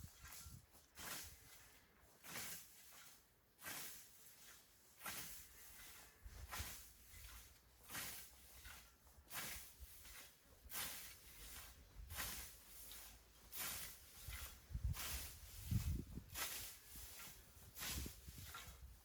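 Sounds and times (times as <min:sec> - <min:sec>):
scythe swishing through grass: 0:00.0 - 0:19.0.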